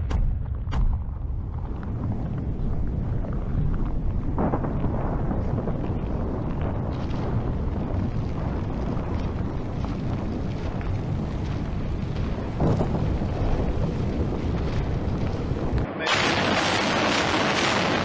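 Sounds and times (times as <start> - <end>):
building collapsing rumble: 0.0 - 18.0.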